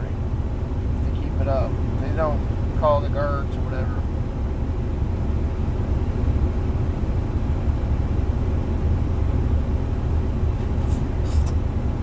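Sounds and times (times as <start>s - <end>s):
diesel truck engine drone: 0.0s - 12.0s
road noise: 0.0s - 12.0s.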